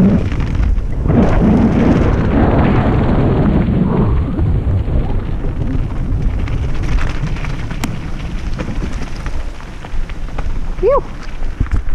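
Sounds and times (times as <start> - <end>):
bike tyres rumbling on gravel: 0.0 - 11.9
stones and bike rattling: 0.0 - 11.9
wind buffeting microphone: 0.0 - 11.9.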